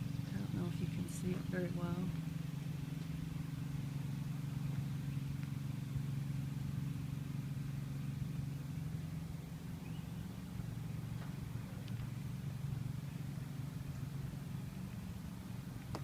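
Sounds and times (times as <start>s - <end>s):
engine running at low pitch: 0.0s - 16.0s.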